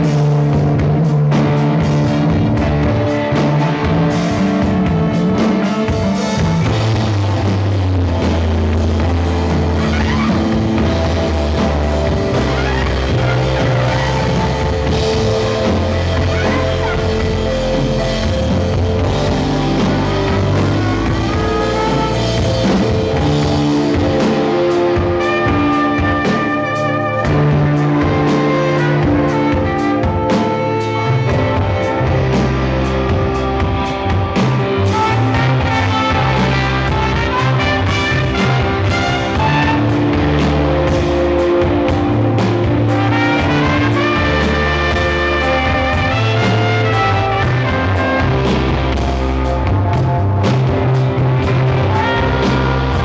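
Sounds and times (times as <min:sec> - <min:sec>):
drum kit: 0:00.0 - 0:53.0
electric bass guitar: 0:00.0 - 0:53.0
trumpet held notes: 0:05.8 - 0:53.0.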